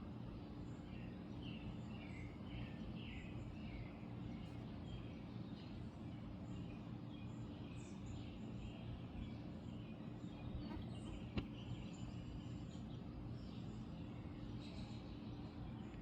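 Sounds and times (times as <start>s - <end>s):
birds chirping faintly: 0.0s - 16.0s
steady low hum: 0.0s - 16.0s.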